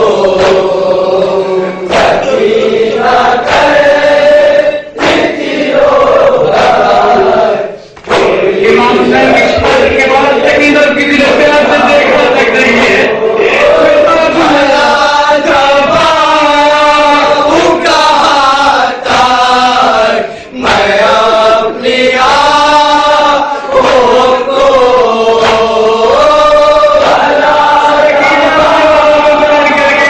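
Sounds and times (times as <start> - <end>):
lead voice chanting lament: 0.0 - 30.0
men chanting along: 0.0 - 30.0.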